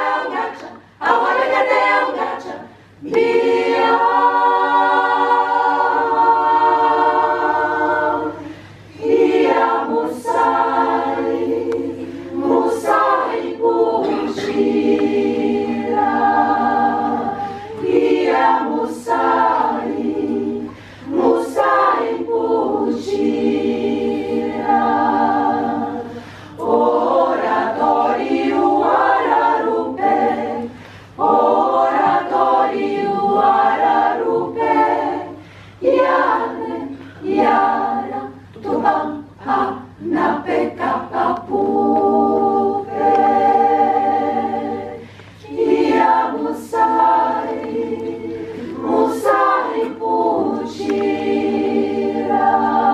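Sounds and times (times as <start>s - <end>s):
women's choir singing: 0.0s - 52.9s.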